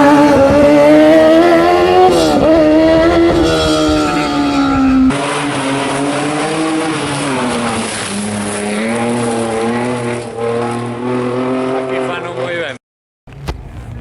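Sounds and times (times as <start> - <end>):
rally car engine at high revs: 0.0 - 12.8.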